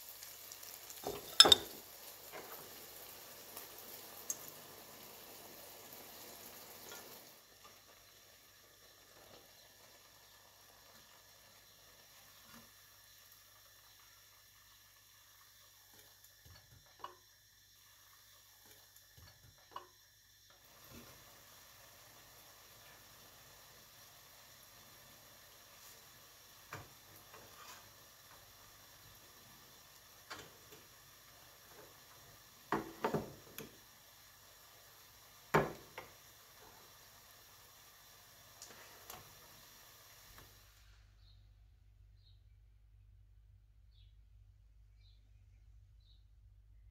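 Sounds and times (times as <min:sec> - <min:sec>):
faint steady hiss: 0:00.0 - 0:42.4.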